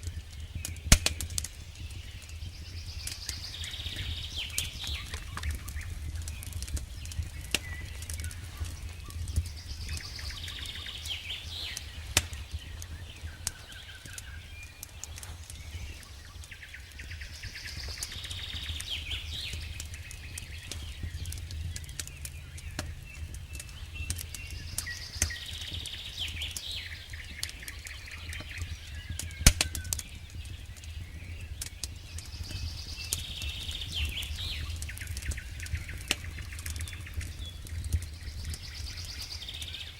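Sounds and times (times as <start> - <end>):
burning wood popping: 0.0 - 39.9
campfire crackling: 0.0 - 39.9.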